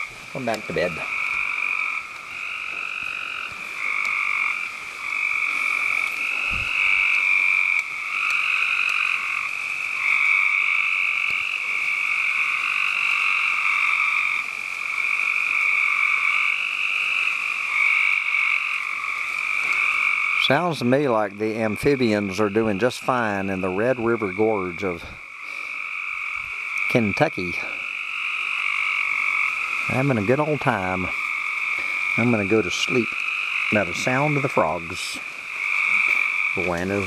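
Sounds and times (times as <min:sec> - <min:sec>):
frogs trilling: 0:00.0 - 0:37.0.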